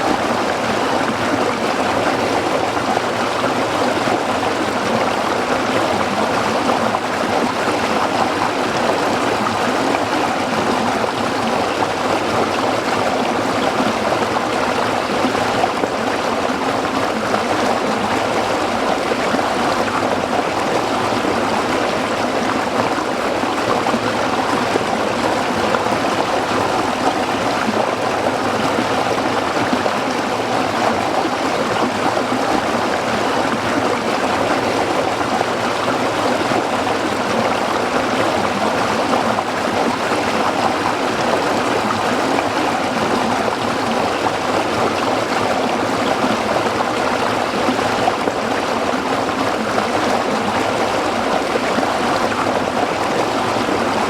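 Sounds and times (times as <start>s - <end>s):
stream burbling over rocks: 0.0s - 54.0s.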